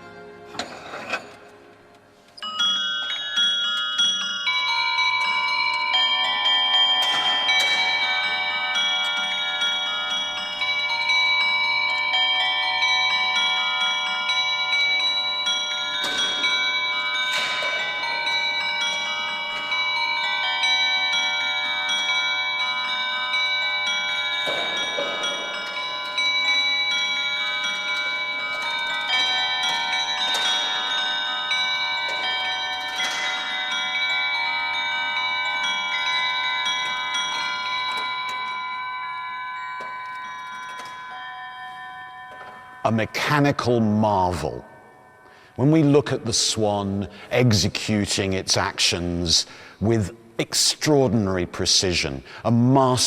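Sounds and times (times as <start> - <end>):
automaton bells chiming a tune: 2.4 - 53.0.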